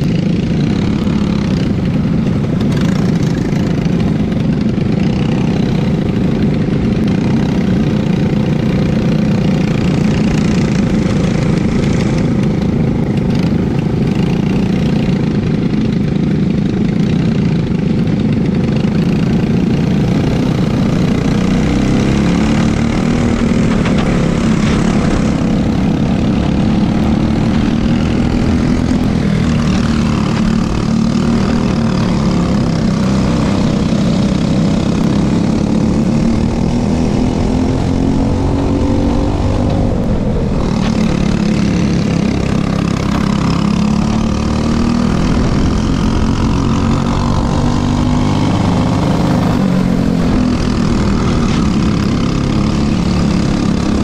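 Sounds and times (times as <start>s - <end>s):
kart engines running: 0.0s - 54.0s.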